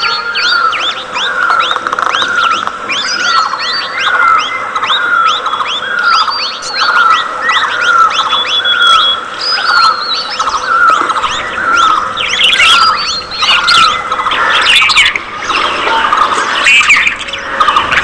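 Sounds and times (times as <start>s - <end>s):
budgerigars chirping and chattering: 0.0s - 18.0s.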